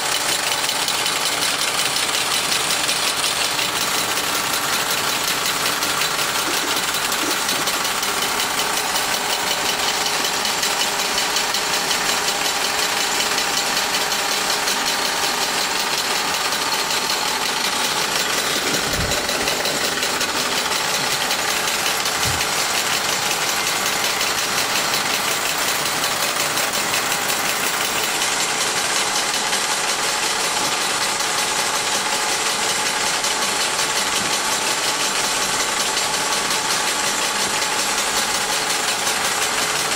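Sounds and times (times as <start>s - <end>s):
toy steam engine rattling: 0.0s - 39.9s.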